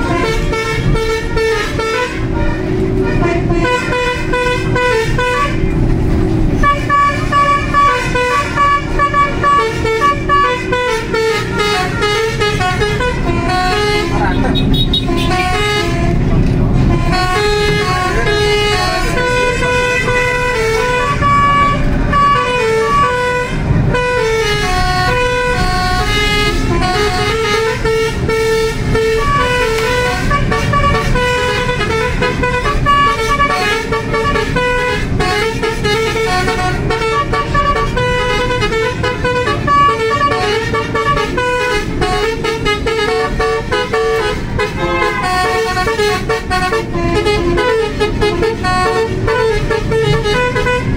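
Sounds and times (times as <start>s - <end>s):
musical air horn playing a tune: 0.0s - 5.8s, 6.5s - 50.9s
moving bus noise: 0.0s - 50.9s.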